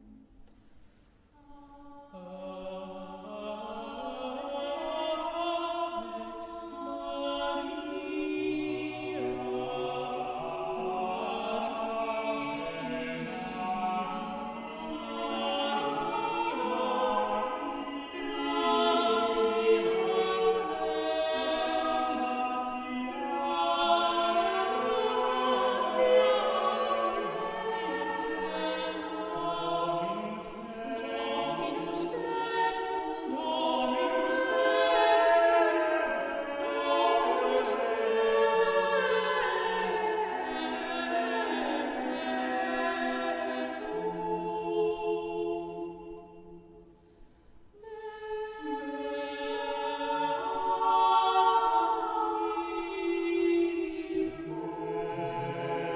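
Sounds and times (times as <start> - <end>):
choir singing sustained chords: 1.4 - 55.9.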